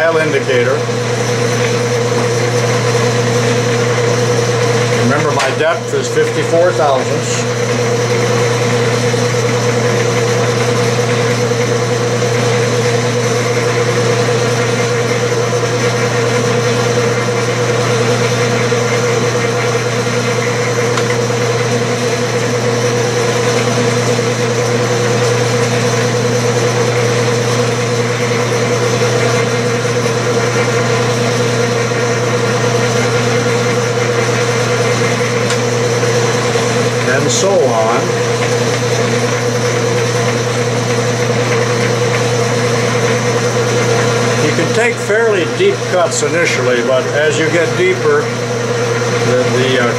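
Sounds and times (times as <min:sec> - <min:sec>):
metal lathe running: 0:00.0 - 0:49.9.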